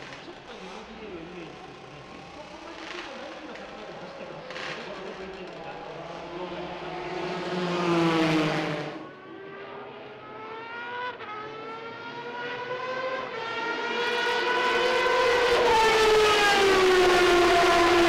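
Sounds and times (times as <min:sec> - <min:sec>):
race car engine wailing: 0:00.0 - 0:18.0.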